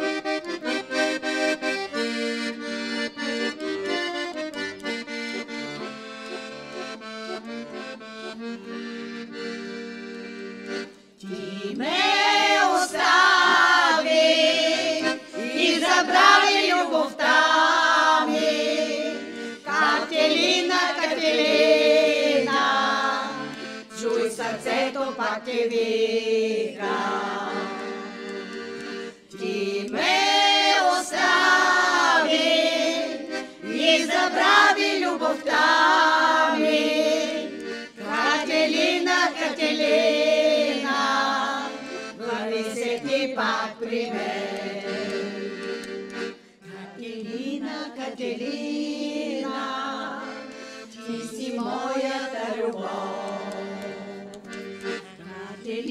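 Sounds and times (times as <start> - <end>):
group of voices singing: 10.7 - 55.9.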